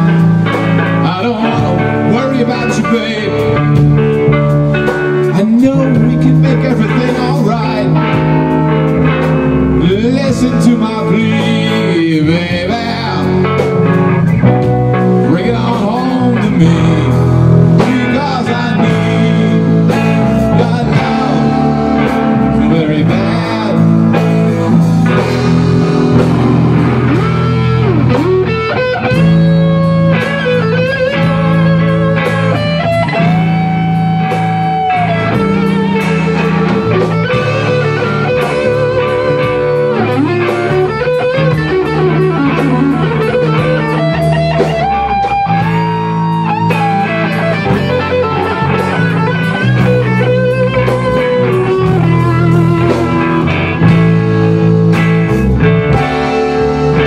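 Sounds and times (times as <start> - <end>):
electric guitar lead: 0.0 - 57.0
live rock band playing: 0.0 - 57.0.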